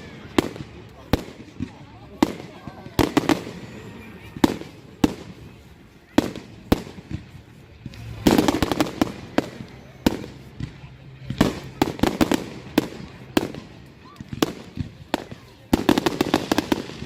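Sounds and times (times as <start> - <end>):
fireworks bangs: 0.0 - 17.0
fireworks crackling volley: 0.0 - 17.0.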